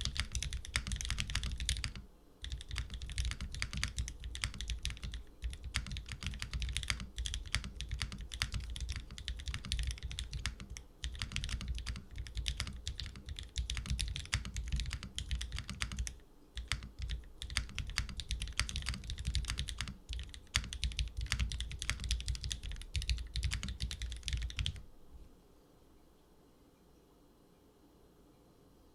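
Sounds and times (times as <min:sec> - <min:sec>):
mechanical keyboard typing: 0:00.0 - 0:24.8.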